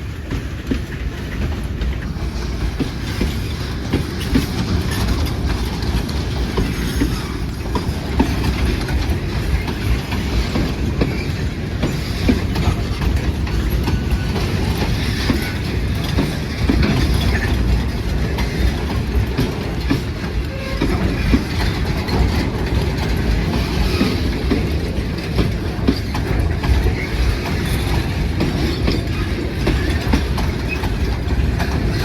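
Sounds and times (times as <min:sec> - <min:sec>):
train rumbling past: 0:00.0 - 0:32.0
wheels clicking over rail joints: 0:00.0 - 0:32.0.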